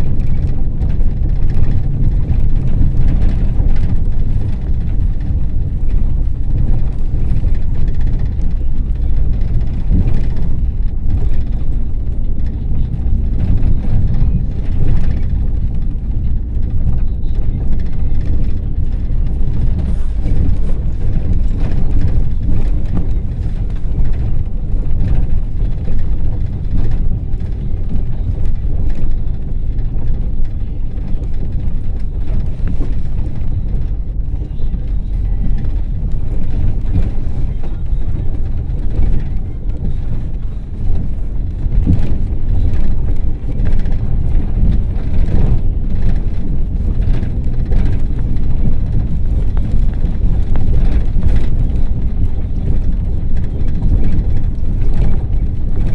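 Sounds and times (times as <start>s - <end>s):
minibus engine and road rumble: 0.0s - 55.9s.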